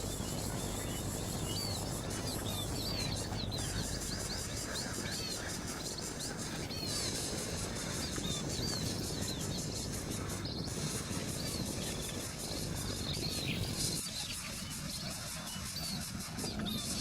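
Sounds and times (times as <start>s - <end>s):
birds chirping: 0.0s - 17.0s
steady low rumbling: 0.0s - 17.0s.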